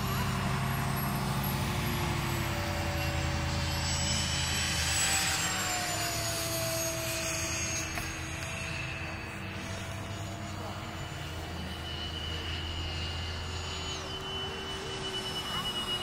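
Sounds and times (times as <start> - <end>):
model airplane motors whining: 0.0 - 16.0.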